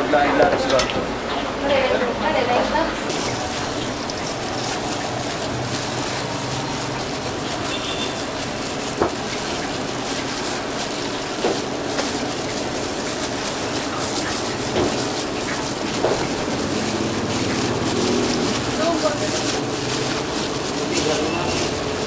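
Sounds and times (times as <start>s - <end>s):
rice sizzling in a wok: 3.1s - 22.0s.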